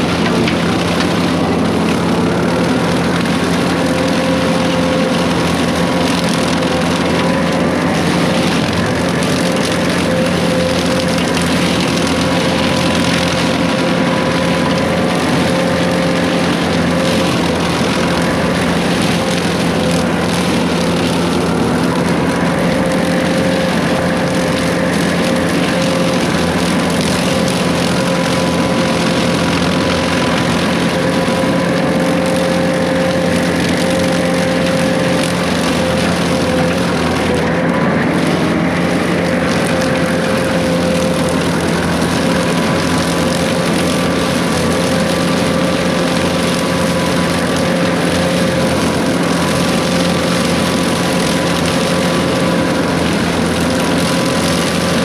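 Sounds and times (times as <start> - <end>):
excavator diesel engine: 0.0 - 55.0
hydraulic whine: 0.0 - 55.0.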